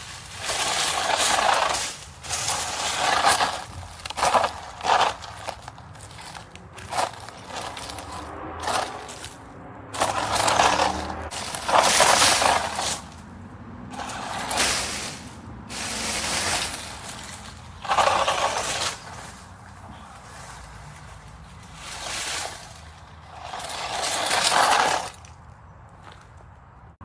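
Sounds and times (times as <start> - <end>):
toy truck tyres crunching ground: 0.0 - 27.0.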